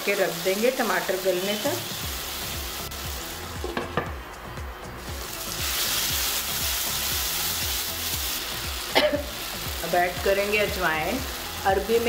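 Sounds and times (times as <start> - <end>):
food sizzling in a pan: 0.0 - 12.0
background music with bass line: 1.8 - 12.0.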